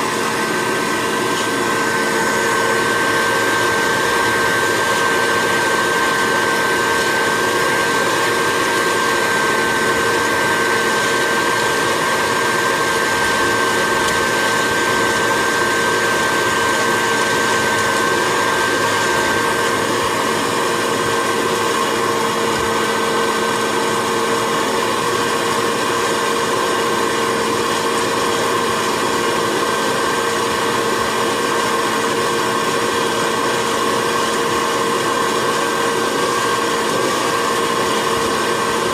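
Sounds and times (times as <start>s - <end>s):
higher whine: 0.0s - 32.4s
fan motor whining: 0.0s - 38.9s.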